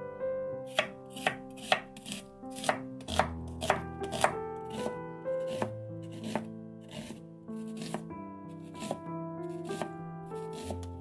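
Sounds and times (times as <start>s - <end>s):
background music with sustained notes: 0.0s - 11.0s
knife chopping on cutting board: 0.7s - 8.0s, 8.7s - 9.0s, 9.7s - 11.0s.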